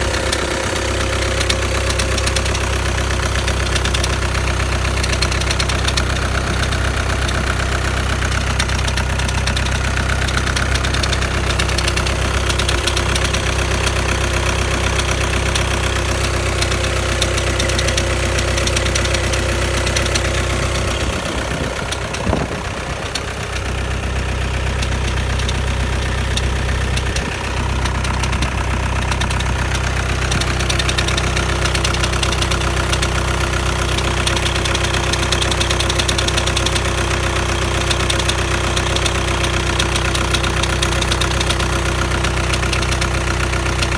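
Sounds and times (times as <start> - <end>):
diesel engine idling: 0.0 - 43.9
knocking rattle: 0.0 - 43.9.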